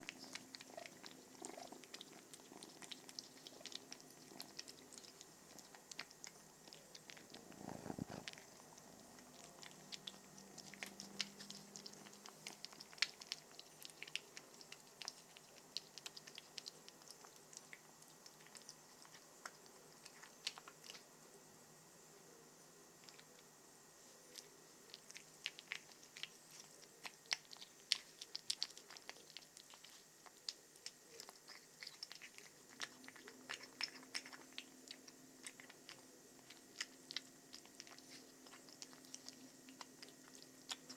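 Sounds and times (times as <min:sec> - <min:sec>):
kitten purring: 0:00.0 - 0:21.2, 0:24.3 - 0:40.9
kitten chewing: 0:00.0 - 0:40.9.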